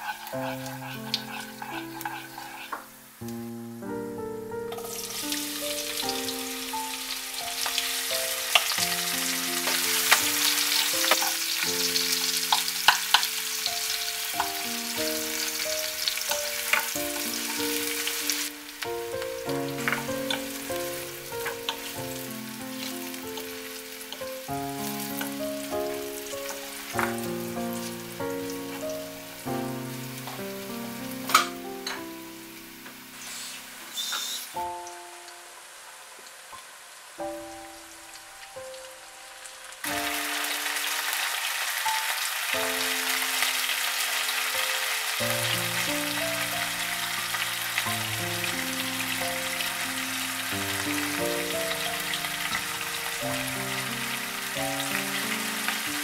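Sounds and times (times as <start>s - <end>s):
instrumental background music: 0.0s - 35.5s, 37.2s - 56.0s
onions sizzling in oil: 0.0s - 56.0s.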